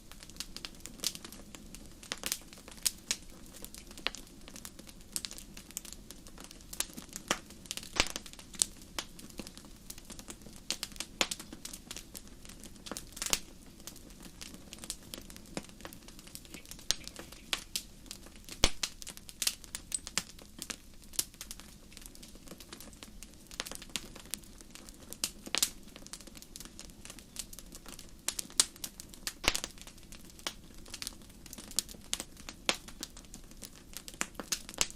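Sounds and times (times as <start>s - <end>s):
fire popping and snapping: 0.0s - 34.9s
fire hissing: 0.1s - 34.9s.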